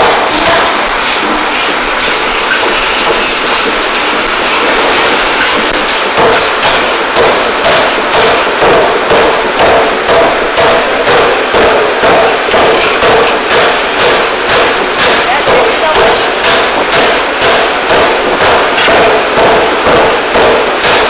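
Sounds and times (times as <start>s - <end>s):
constant loud noise: 0.0s - 21.0s
forging hammer pounding metal: 0.0s - 21.0s.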